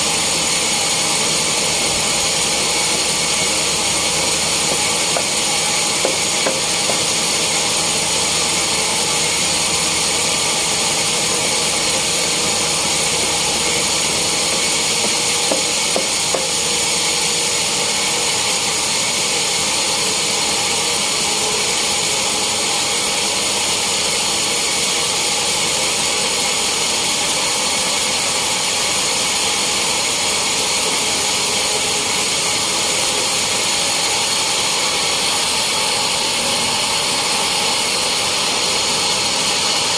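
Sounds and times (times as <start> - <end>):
saw cutting wood: 0.0 - 39.9.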